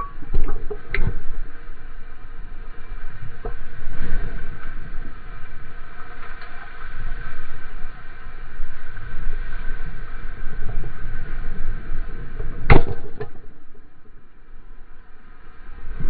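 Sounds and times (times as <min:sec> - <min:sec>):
whitewater and wind rushing: 0:00.0 - 0:16.0.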